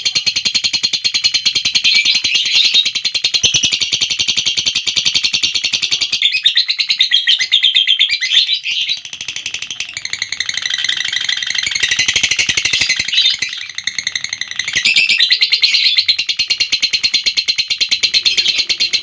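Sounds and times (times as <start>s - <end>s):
lovebird shrill chatter: 0.0s - 19.0s.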